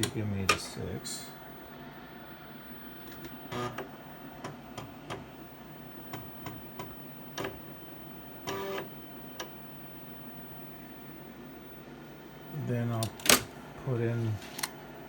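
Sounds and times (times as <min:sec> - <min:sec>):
floppy drive buzzing: 0:00.0 - 0:15.0.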